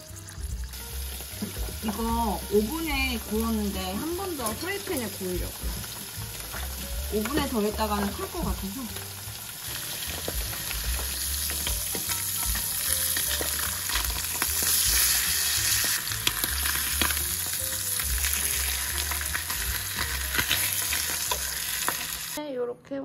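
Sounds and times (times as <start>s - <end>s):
food sizzling in hot oil: 0.0s - 22.4s.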